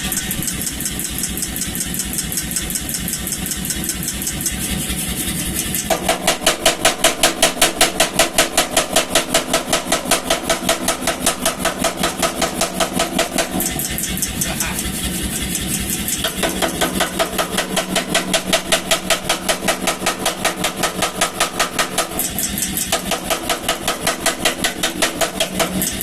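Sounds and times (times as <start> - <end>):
power hammer running: 0.0 - 26.0
power hammer striking steel: 0.0 - 26.0.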